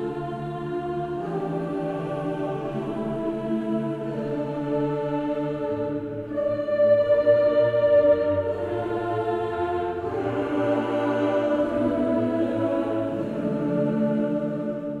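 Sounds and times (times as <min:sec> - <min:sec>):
choir-like background music: 0:00.0 - 0:15.0.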